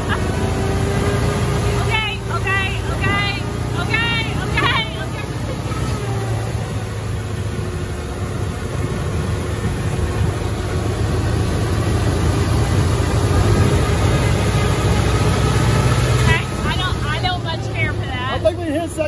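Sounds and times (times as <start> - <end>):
jeep engine running: 0.0 - 19.0.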